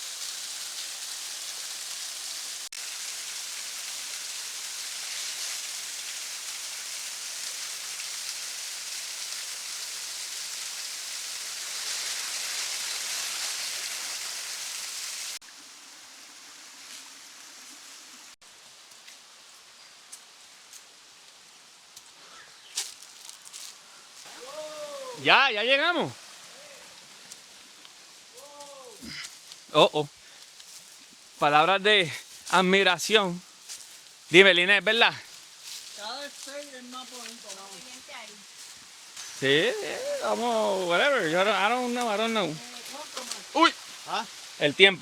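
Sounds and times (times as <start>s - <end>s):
rushing river water: 0.0s - 18.4s, 24.2s - 45.0s.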